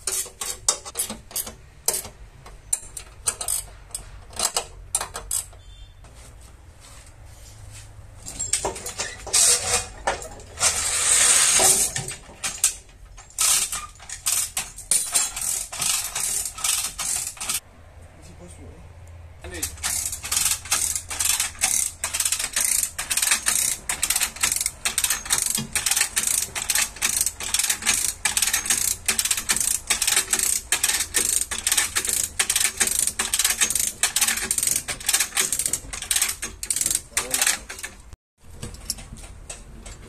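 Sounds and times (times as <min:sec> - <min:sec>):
chain hoist ratchet clicking: 0:00.0 - 0:05.6, 0:08.3 - 0:17.6, 0:19.5 - 0:38.1.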